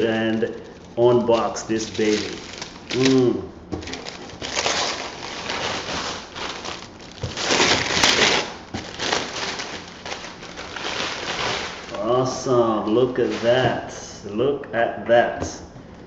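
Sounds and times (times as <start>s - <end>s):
paper crinkling and tearing: 0.0s - 12.2s, 12.8s - 13.7s.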